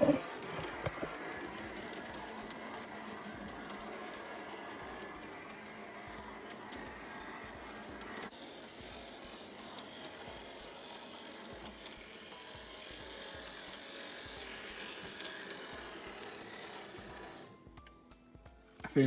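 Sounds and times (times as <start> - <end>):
model train motor whirring: 0.0 - 17.6.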